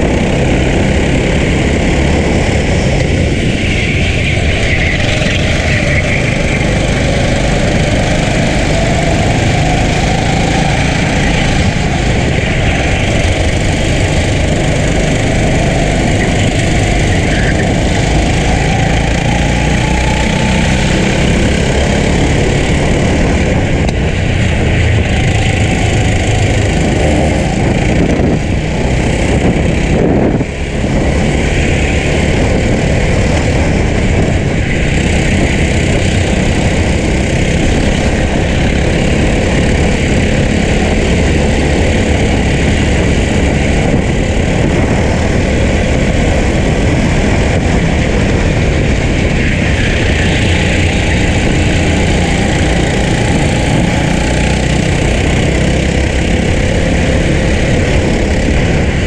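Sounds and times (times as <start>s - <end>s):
kart engine running hard: 0.0s - 59.0s
wind noise: 0.0s - 59.0s.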